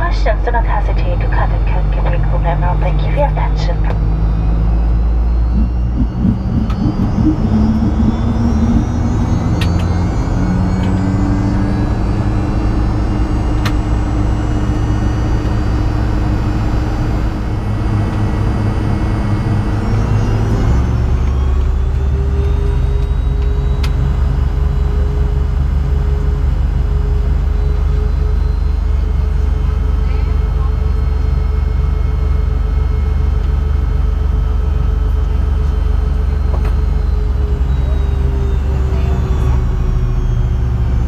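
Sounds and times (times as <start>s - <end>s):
jet engines droning in cabin: 0.0s - 41.0s.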